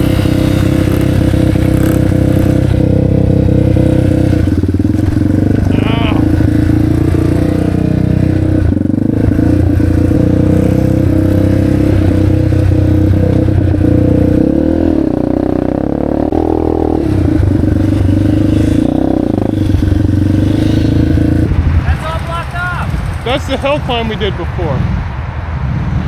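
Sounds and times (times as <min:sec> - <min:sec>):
motorcycle engine under throttle: 0:00.0 - 0:21.9.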